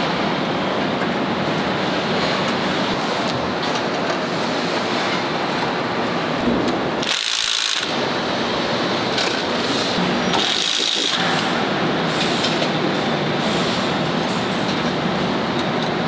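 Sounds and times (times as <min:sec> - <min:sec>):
factory assembly-line din: 0:00.0 - 0:16.0.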